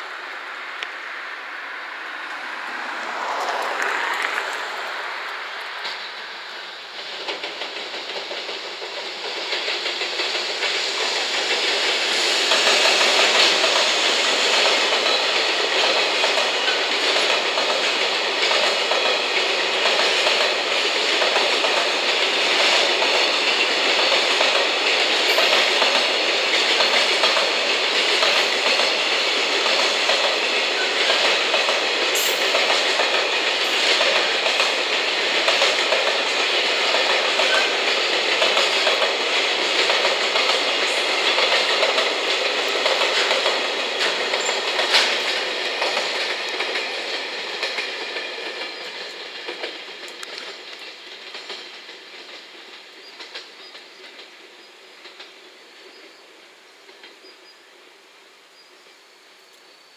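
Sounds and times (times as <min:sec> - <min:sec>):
freight train wheels clattering: 0:02.7 - 0:56.1.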